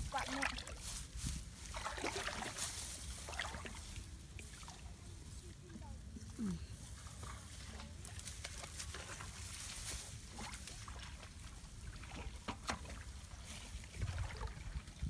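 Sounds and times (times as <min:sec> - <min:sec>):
water sloshing and splashing: 0:00.0 - 0:06.2, 0:06.8 - 0:15.0.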